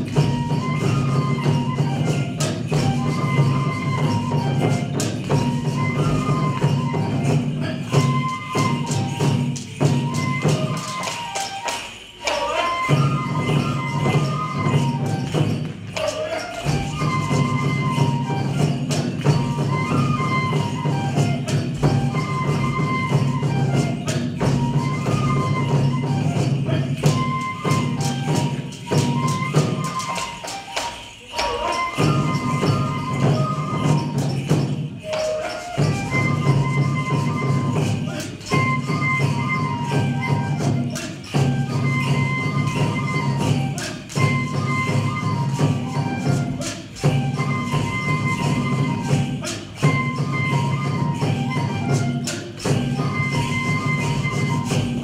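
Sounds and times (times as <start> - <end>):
constant jingling: 0.0 - 55.0
drums in steady beat: 0.0 - 55.0.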